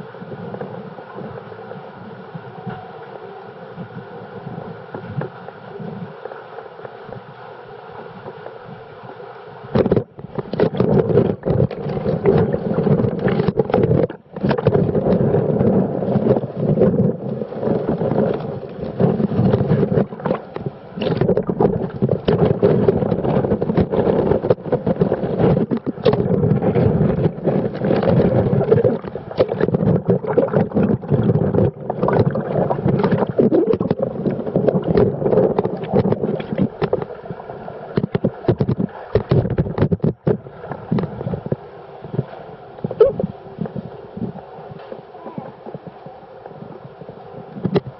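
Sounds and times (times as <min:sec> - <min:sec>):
water rushing and splashing: 0:00.0 - 0:47.9.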